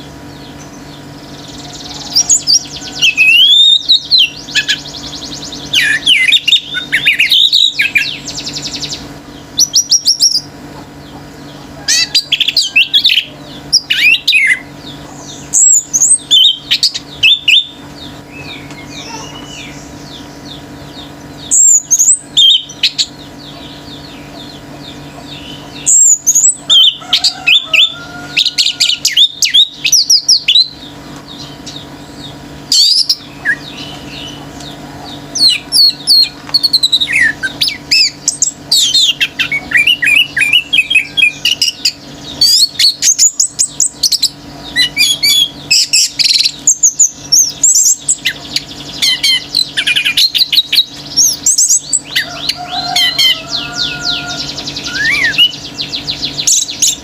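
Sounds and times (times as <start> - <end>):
bird singing whistled notes: 0.4 - 10.5, 12.2 - 27.0, 35.4 - 57.0.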